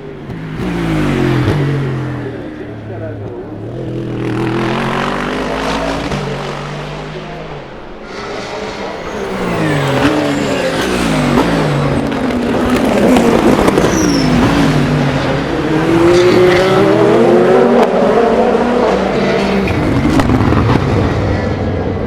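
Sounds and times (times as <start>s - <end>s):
race car engines downshifting and accelerating: 0.0s - 22.0s.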